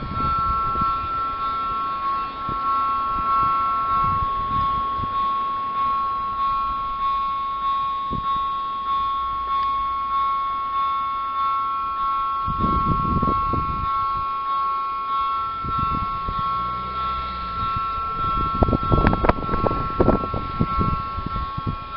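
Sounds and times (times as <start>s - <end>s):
level crossing bell dinging: 0.0s - 21.9s.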